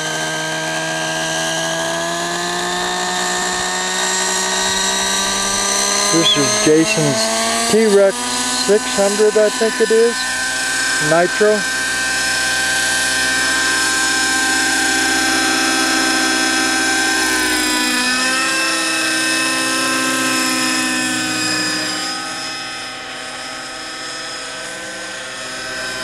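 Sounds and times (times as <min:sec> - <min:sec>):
model helicopter engine whine: 0:00.0 - 0:26.0.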